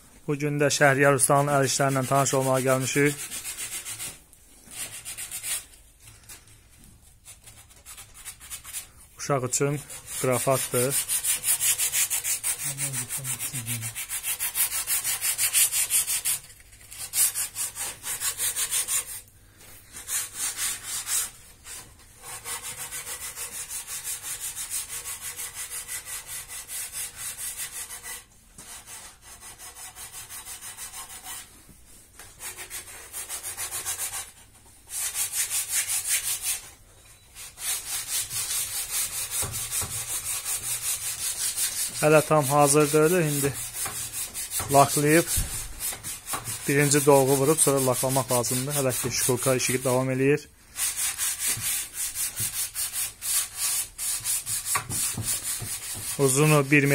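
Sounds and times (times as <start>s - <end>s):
sandpaper rubbing on wood: 1.3s - 5.8s, 9.5s - 19.2s, 19.9s - 31.5s, 32.4s - 36.8s, 37.4s - 56.9s.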